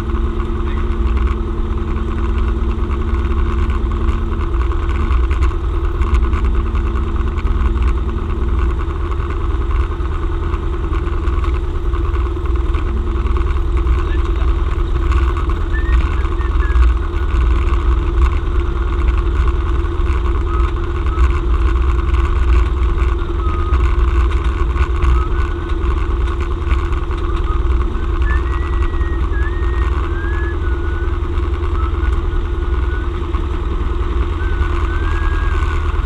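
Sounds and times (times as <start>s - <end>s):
airplane engine droning: 0.0s - 36.0s.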